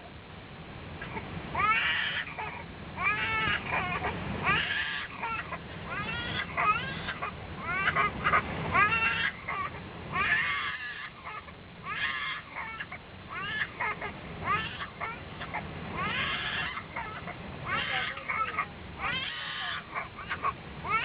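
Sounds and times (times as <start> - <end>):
aircraft cabin rumble: 0.0 - 21.0
infant crying: 1.0 - 21.0.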